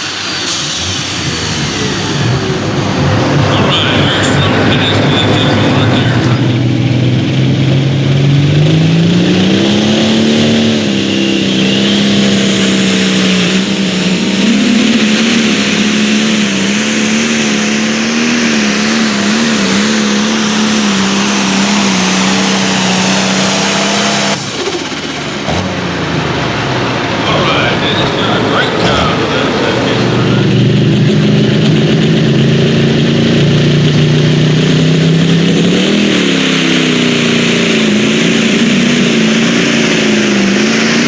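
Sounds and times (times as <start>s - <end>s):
engine running flat out: 0.0s - 41.0s.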